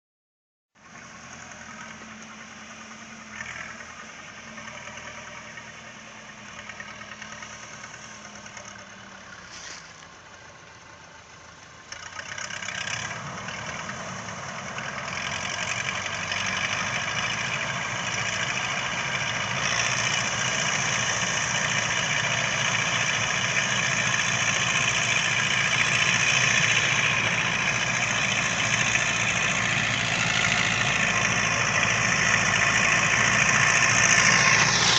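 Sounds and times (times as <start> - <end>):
corn picker mechanical noise: 0.8 - 34.9
tractor diesel engine running: 0.8 - 34.9.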